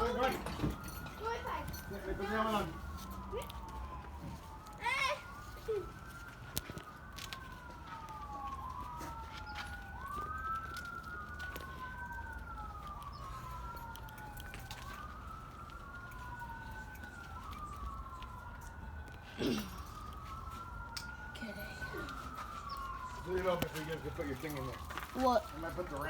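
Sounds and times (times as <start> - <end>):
faint clicks and rustles: 0.0 - 26.0
wailing siren: 0.0 - 26.0.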